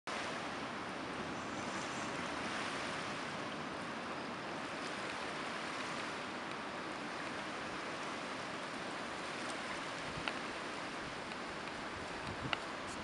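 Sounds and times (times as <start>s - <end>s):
ocean surf hissing: 0.1s - 13.0s.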